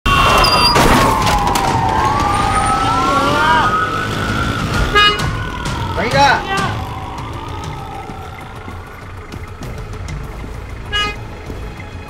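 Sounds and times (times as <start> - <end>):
police siren wailing: 0.1 - 10.3
engine noise: 1.1 - 12.0.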